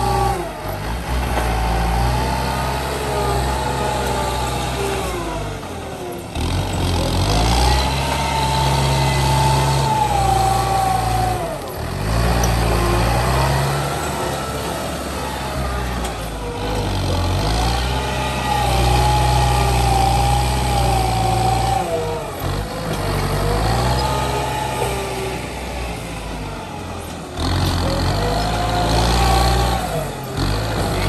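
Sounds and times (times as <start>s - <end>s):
blade pushing soil: 0.0s - 31.0s
tractor diesel engine under load: 0.0s - 31.0s.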